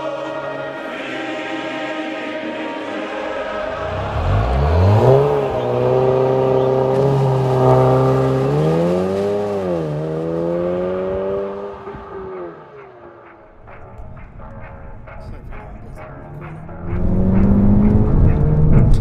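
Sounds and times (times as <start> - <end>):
car engine revving: 3.2 - 19.0.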